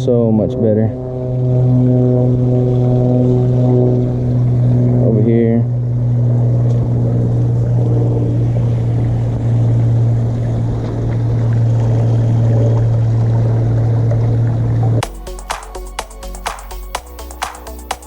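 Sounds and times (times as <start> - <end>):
motor humming steadily: 0.1 - 16.1.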